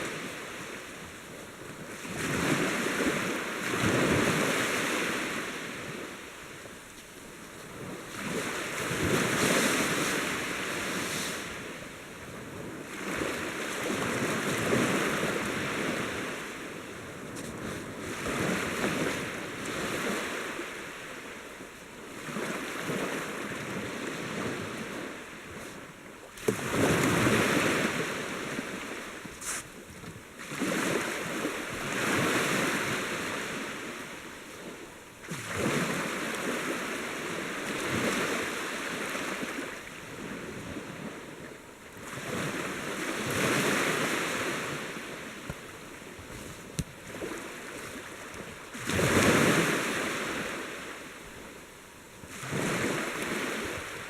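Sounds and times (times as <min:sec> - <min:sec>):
sea waves washing in: 0:00.0 - 0:54.0
wind: 0:00.0 - 0:54.0.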